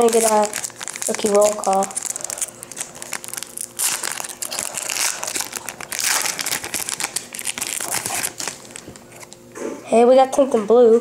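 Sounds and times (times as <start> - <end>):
wrapper crinkling: 0.0 - 9.4.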